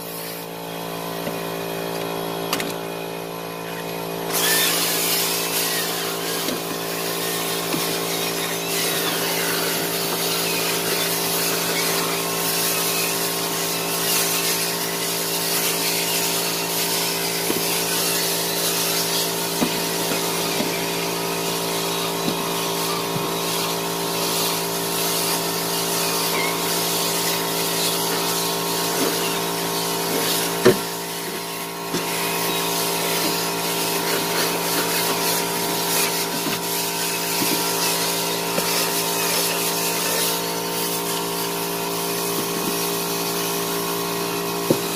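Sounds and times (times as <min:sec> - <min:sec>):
drill with scrub brush running: 0:00.0 - 0:44.9.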